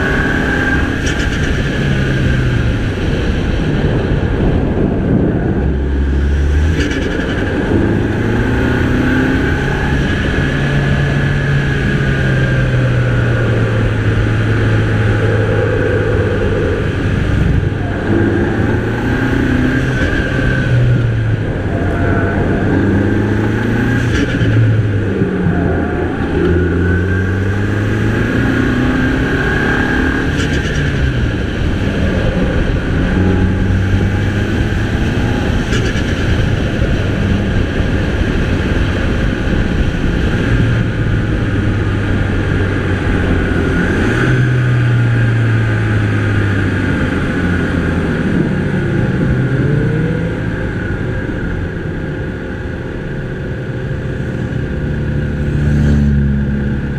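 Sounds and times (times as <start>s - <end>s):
car engine revving: 0.0s - 56.9s
high whine: 0.0s - 56.9s
road noise: 0.0s - 56.9s.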